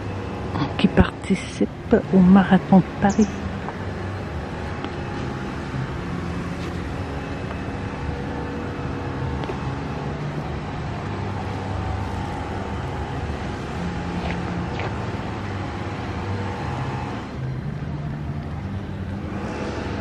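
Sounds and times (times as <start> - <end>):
low city rumble: 0.0 - 20.0.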